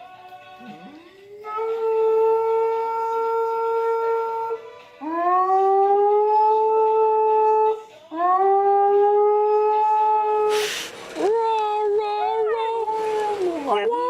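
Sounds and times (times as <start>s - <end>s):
dog howling: 1.3s - 10.6s, 11.2s - 14.0s.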